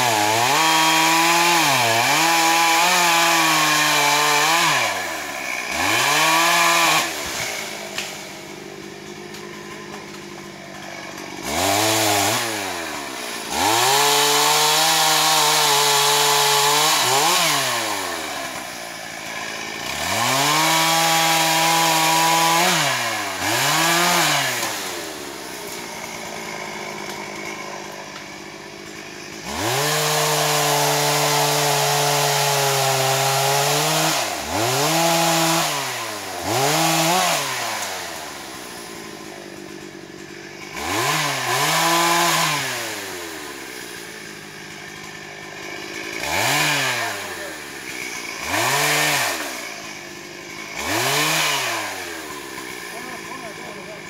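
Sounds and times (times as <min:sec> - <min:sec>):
chainsaw cutting logs: 0:00.0 - 0:54.0.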